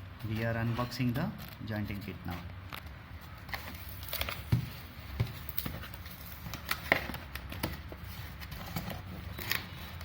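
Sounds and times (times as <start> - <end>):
packaging being handled: 0.2 - 10.0.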